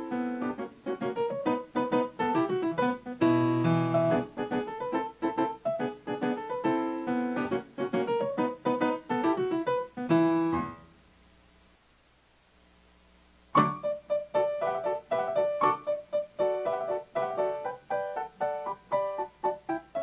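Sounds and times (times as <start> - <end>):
solo piano music: 0.0 - 11.0, 13.5 - 20.0.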